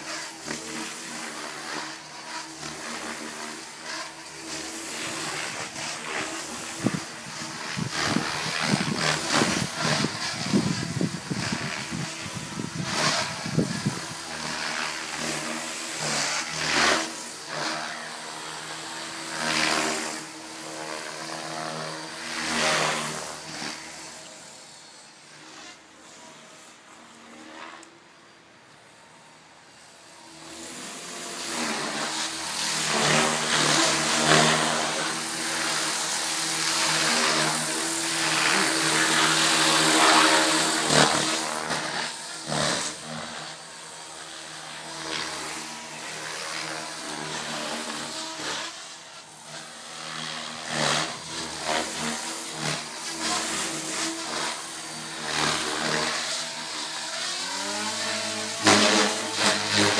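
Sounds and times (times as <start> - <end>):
rc helicopter rotor whine: 0.0 - 59.9.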